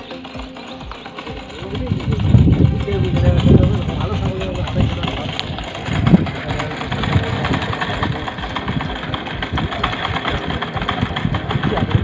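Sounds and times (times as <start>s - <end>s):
wooden pulley rumbling: 0.0s - 12.0s.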